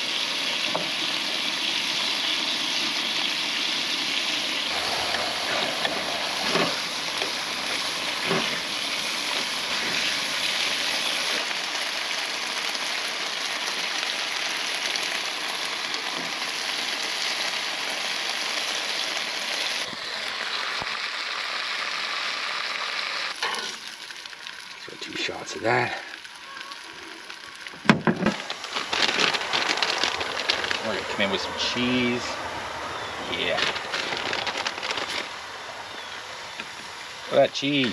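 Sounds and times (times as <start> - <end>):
bacon sizzling in a frying pan: 0.0 - 37.9.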